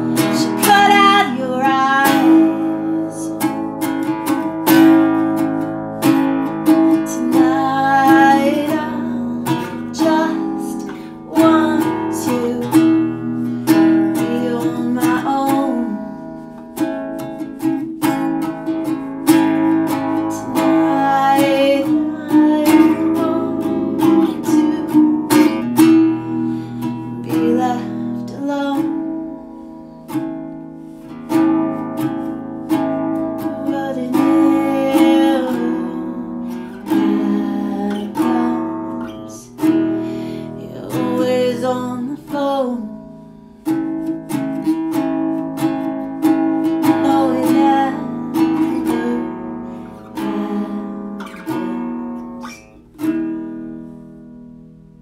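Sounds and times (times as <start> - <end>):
person singing: 0.0 - 30.2, 32.0 - 44.9, 46.2 - 52.6
acoustic guitar: 0.0 - 55.0.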